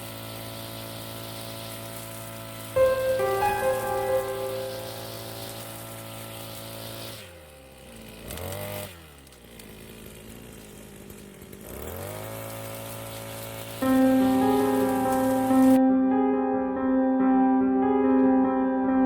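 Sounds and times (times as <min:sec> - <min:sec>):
brush cutter engine revving: 0:00.0 - 0:15.8.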